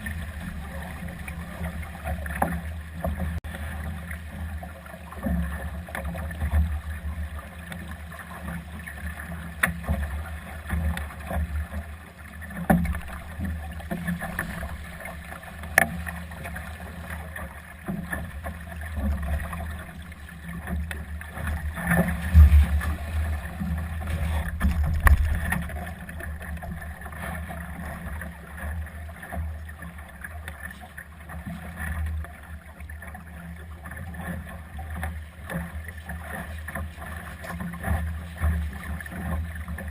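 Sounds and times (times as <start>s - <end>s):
water along boat hull: 0.0s - 39.9s.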